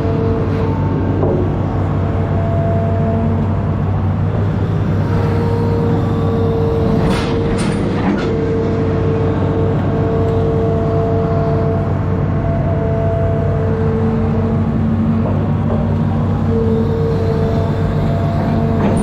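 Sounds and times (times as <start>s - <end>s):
constant whine: 0.0s - 19.0s
excavator diesel engine running: 0.0s - 19.0s.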